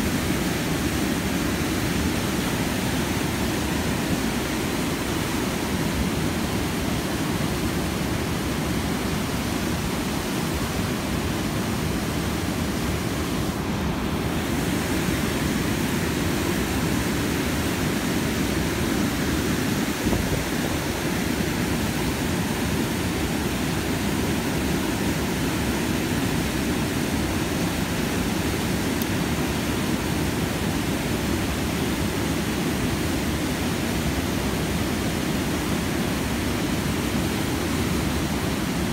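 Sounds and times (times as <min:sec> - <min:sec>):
river water rushing over dam: 0:00.0 - 0:38.9.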